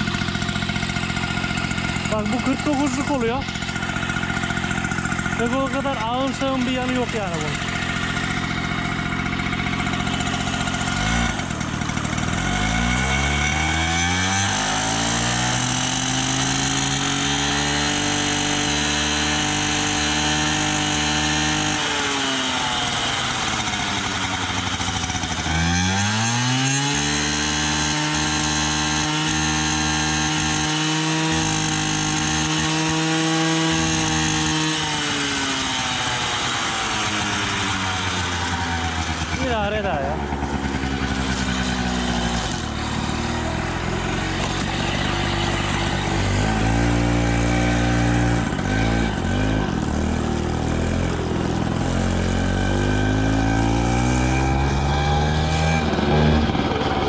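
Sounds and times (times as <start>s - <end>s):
moped engine revving: 0.0s - 57.0s.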